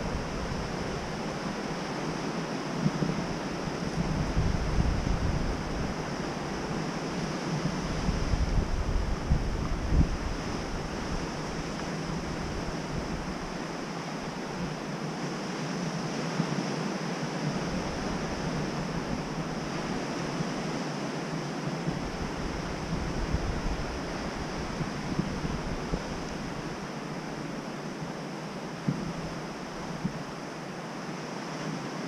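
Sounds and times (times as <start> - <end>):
wind buffeting microphone: 0.0 - 15.3, 17.4 - 30.4
ocean waves breaking: 0.0 - 32.0.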